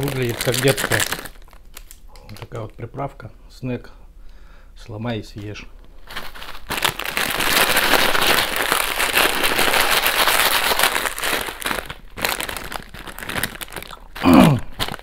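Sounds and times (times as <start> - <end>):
plastic snack packet crinkling: 0.0 - 2.8, 5.4 - 15.0.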